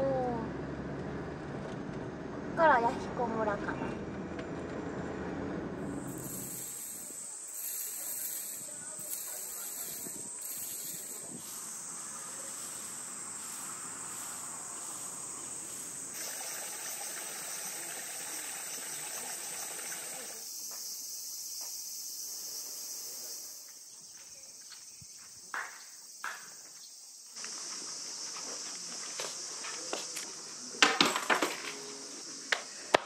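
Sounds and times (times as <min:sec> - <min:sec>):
cicadas buzzing: 0:05.8 - 0:33.0.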